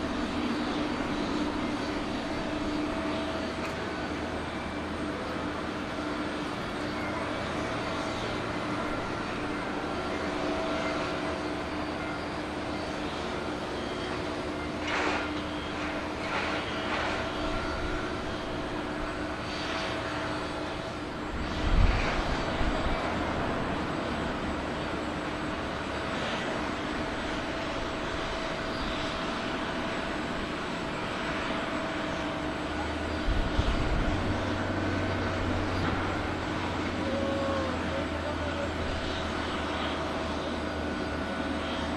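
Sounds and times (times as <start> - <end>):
deep engine rumble: 0.0 - 41.9
jet engines whining: 0.0 - 41.9.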